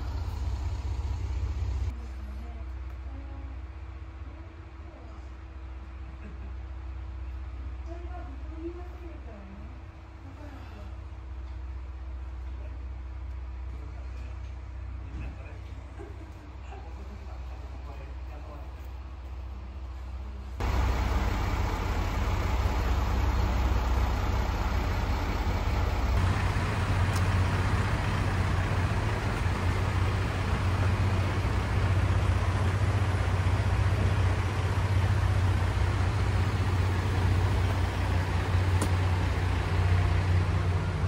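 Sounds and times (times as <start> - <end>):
diesel railcar engines idling: 0.0 - 41.0.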